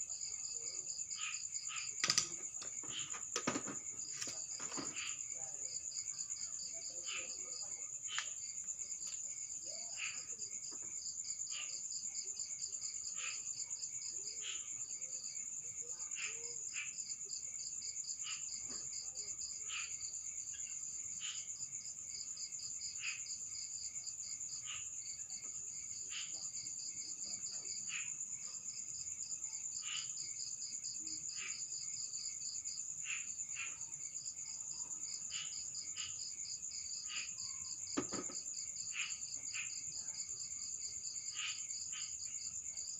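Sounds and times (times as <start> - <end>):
insect chirp: 0.0 - 42.9
insects trilling chorus: 0.0 - 42.9.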